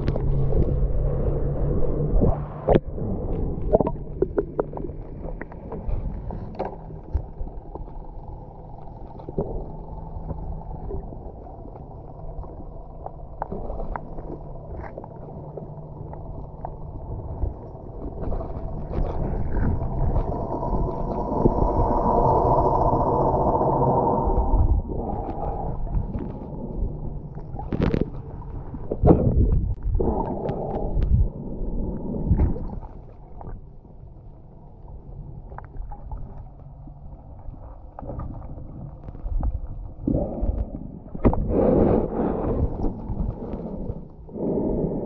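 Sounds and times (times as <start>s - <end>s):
underwater boat motor hum: 0.0s - 45.0s.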